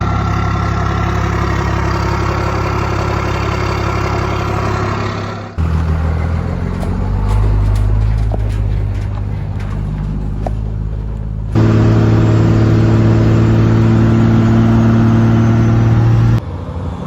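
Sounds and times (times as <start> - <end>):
deeper engine sound: 0.0 - 16.4
diesel truck engine idling: 0.0 - 16.4.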